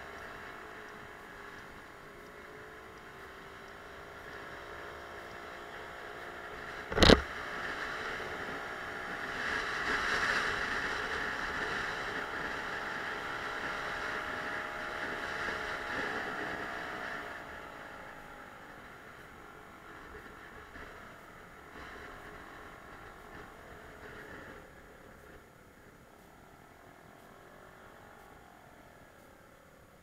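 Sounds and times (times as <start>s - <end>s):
road noise: 0.0s - 30.0s
scooter engine running: 0.0s - 30.0s.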